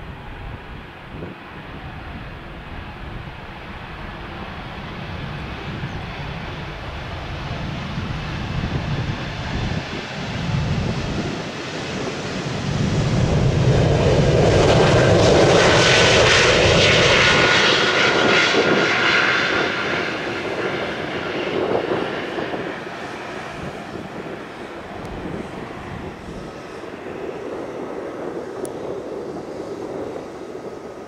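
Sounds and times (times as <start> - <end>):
jet engine whine: 0.0 - 31.0
jet engines at takeoff power: 0.0 - 31.0.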